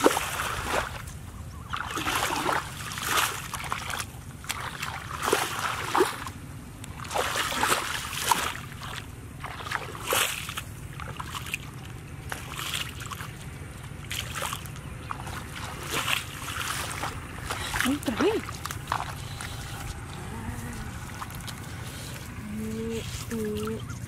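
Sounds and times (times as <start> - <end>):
feet wading through muddy water: 0.0 - 24.0.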